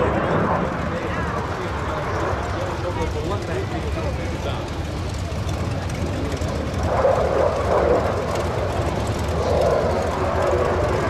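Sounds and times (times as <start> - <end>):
jet engine rumble overhead: 0.0 - 11.0.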